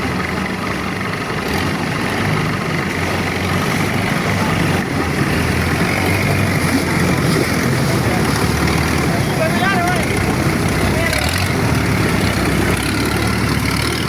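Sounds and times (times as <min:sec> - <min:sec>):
boat engine humming: 0:00.0 - 0:14.0
water noise: 0:00.0 - 0:14.0
wind: 0:00.0 - 0:14.0.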